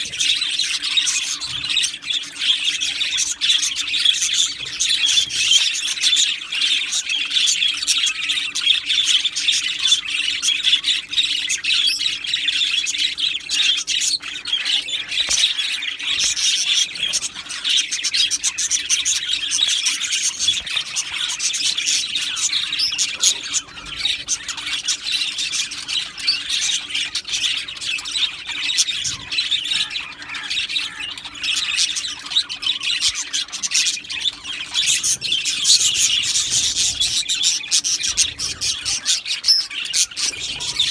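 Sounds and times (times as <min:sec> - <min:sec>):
budgerigars chirping and squawking: 0:00.0 - 0:40.9.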